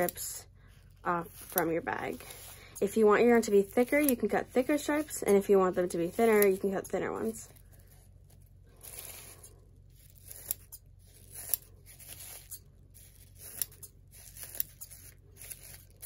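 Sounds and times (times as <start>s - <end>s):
scissors snipping plastic: 0.0s - 0.4s, 1.1s - 7.4s, 8.8s - 16.0s.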